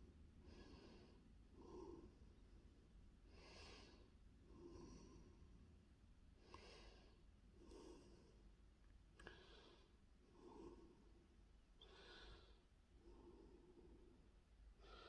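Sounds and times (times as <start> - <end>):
slow breathing: 0.4 - 2.4, 3.2 - 5.7, 6.4 - 8.6, 9.2 - 15.0.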